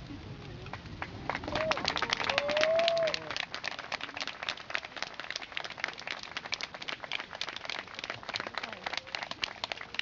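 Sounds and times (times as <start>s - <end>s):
people applauding: 0.6s - 10.0s.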